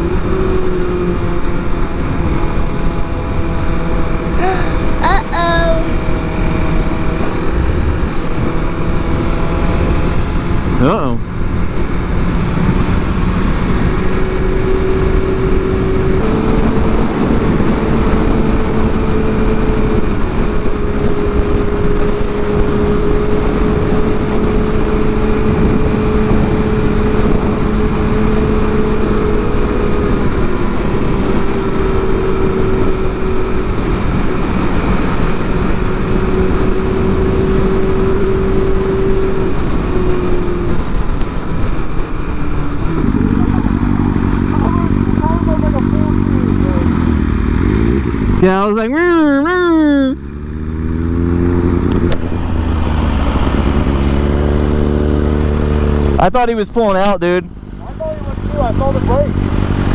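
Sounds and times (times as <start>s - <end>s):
wind rushing over microphone: 6.0s - 48.6s, 50.4s - 59.9s
motorcycle engine drone: 6.0s - 59.9s.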